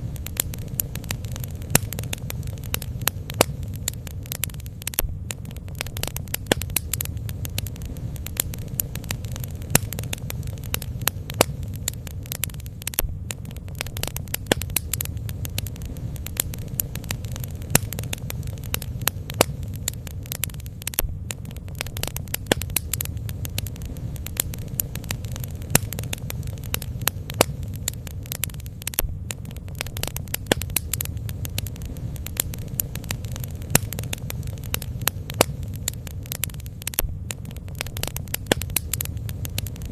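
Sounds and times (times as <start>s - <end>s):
bonfire crackling and popping: 0.0s - 39.9s
low steady rumble: 0.0s - 39.9s.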